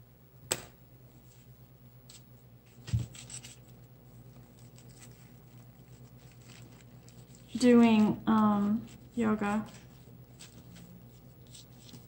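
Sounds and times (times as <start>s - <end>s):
paper napkin rustling: 1.2s - 12.0s.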